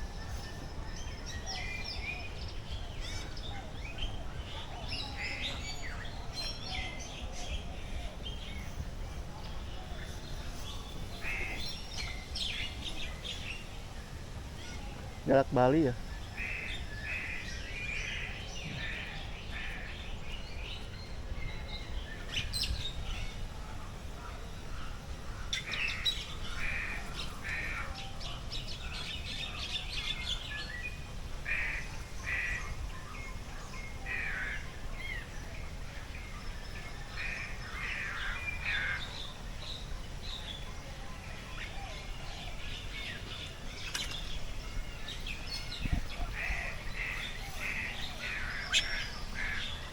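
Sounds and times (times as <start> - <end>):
birds chirping and calling: 0.0 - 49.9.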